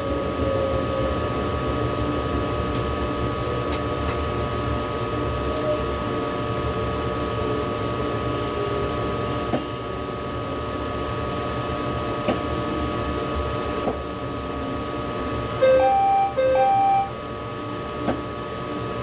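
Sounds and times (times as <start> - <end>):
constant high whine: 0.0 - 19.0
low train rumble: 0.0 - 19.0.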